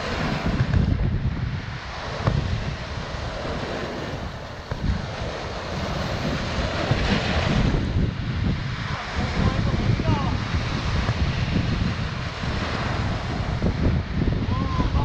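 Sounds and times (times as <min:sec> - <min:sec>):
surf breaking on rocky shore: 0:00.0 - 0:15.0
wind buffeting microphone: 0:00.0 - 0:15.0.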